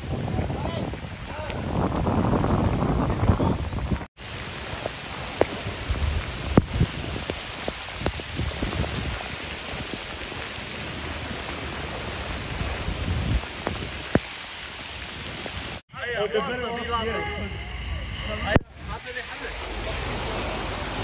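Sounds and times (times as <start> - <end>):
heavy rain pouring: 0.0 - 15.8, 18.5 - 21.0.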